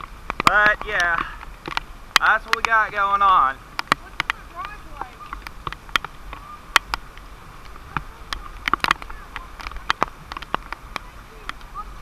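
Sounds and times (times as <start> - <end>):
water drops tapping: 0.0 - 11.8.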